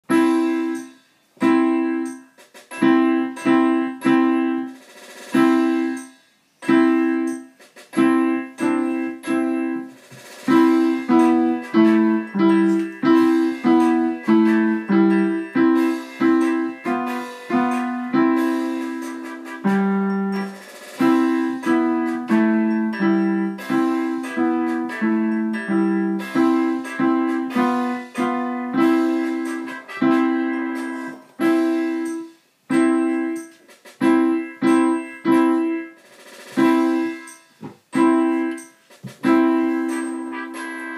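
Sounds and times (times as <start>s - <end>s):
digital piano chords: 0.0s - 40.9s.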